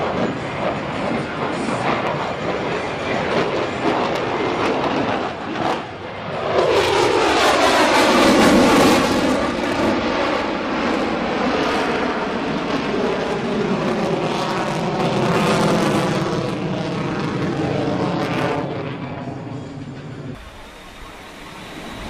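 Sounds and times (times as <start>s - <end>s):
jet engines in afterburner flyby: 0.0s - 22.0s.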